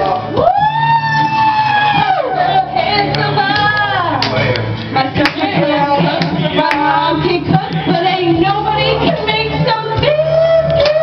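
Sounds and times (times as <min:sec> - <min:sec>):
woman singing karaoke: 0:00.0 - 0:04.3, 0:04.9 - 0:11.0
recorded backing music: 0:00.0 - 0:11.0.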